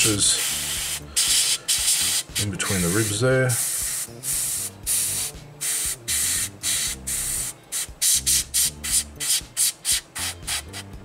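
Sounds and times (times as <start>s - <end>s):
airbrush hissing bursts: 0.0s - 11.0s.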